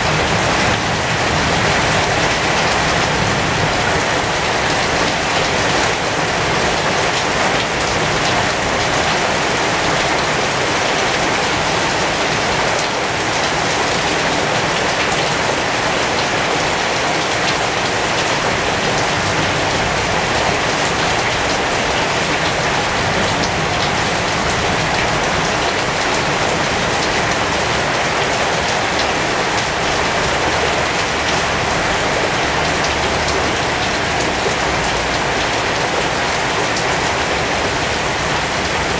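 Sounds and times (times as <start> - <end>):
heavy rain on leaves: 0.0 - 38.9.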